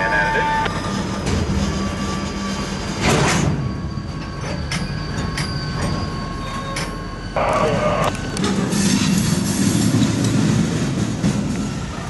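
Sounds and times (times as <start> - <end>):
freight train rumbling: 0.0 - 12.0
metallic clanks of train cars: 0.0 - 12.0.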